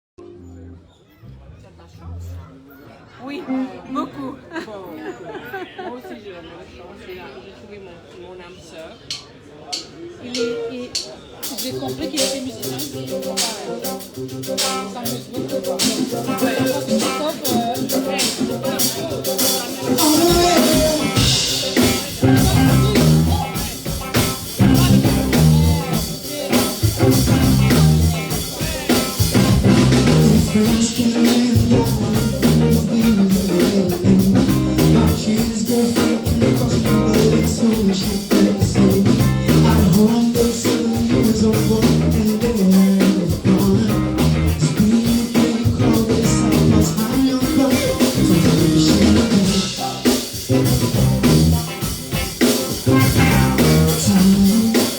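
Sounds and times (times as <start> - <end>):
busy bass line: 0.2 - 2.7, 11.5 - 54.9
steady drums: 9.1 - 54.9
live band playing: 9.8 - 54.9.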